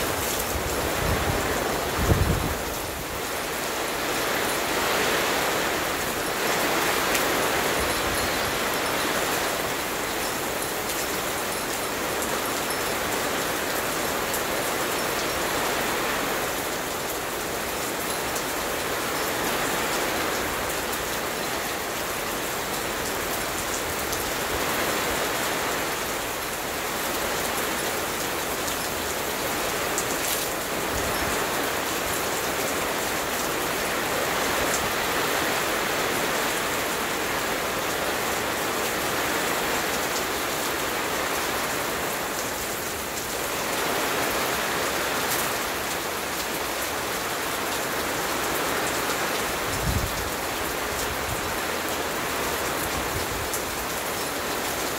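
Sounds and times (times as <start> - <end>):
rain on a lawn: 0.0 - 54.9.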